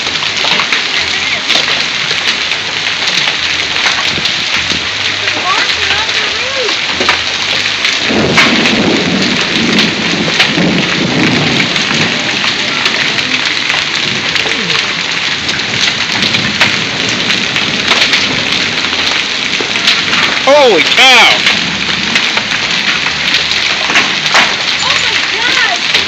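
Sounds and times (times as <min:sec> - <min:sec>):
hailstones ticking on hard surfaces: 0:00.0 - 0:26.0
heavy rain downpour: 0:00.0 - 0:26.0
thunder rumbling: 0:00.0 - 0:26.0.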